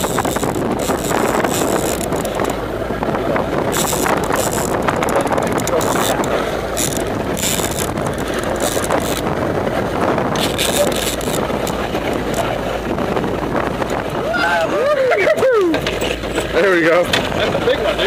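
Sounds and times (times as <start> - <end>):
outboard motor running: 0.0 - 18.0
wind and sea rushing: 0.0 - 18.0.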